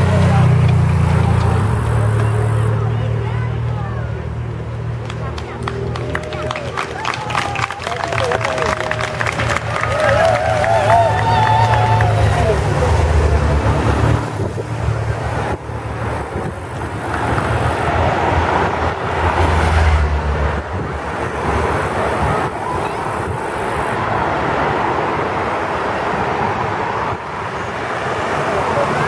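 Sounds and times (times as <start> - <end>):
cars driving past: 0.0 - 29.0.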